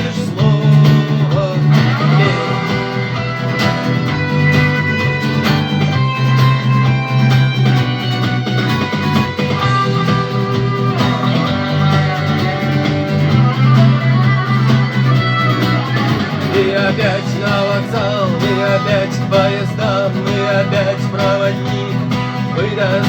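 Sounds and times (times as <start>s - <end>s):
rock guitar: 0.0s - 23.0s
steady bass line: 0.0s - 23.0s.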